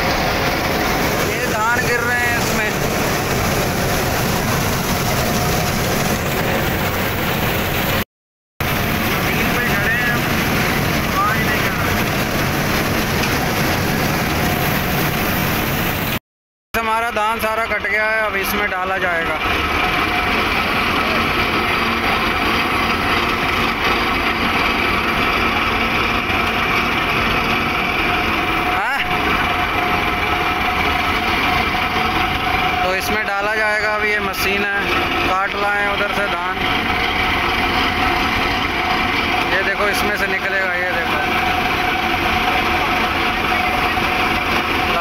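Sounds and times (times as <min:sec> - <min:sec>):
combine harvester mechanical din: 0:00.0 - 0:08.0, 0:08.6 - 0:16.2, 0:16.8 - 0:45.0.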